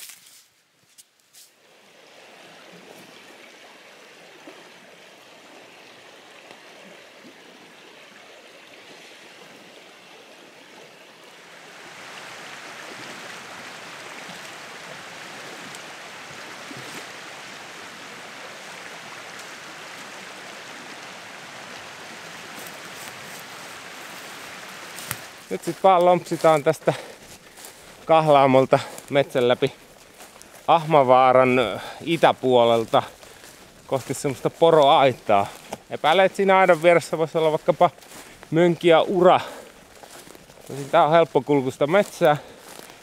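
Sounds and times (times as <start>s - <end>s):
river water rushing: 1.6s - 43.0s.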